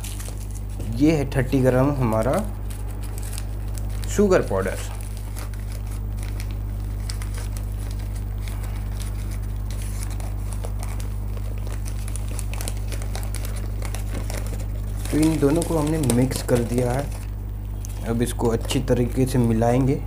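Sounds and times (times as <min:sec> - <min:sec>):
low electrical hum: 0:00.0 - 0:20.0
paper crinkling and rustling: 0:00.0 - 0:20.0.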